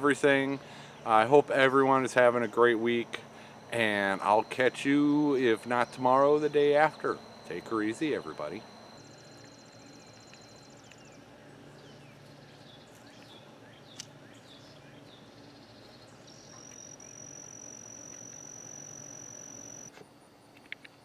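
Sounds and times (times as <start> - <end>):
pulsing high insect trill: 0.0 - 13.2, 14.6 - 20.5
steady high insect buzz: 0.0 - 21.0
short cricket chirps: 2.4 - 21.0.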